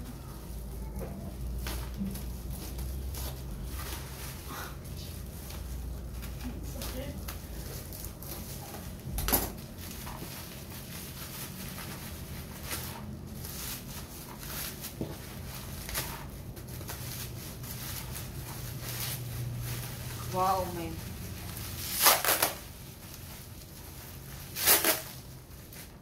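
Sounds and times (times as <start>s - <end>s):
bubble wrap crinkling: 0.0s - 26.0s.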